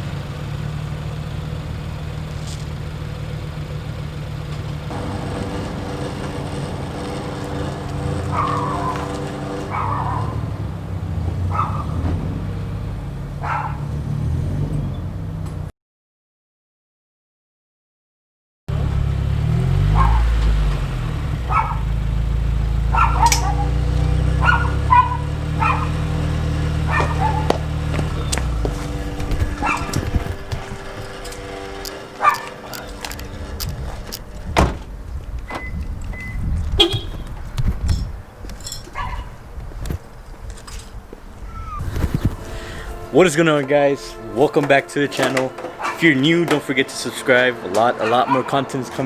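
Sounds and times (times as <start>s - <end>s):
car engine droning: 0.0s - 15.7s, 18.7s - 49.0s.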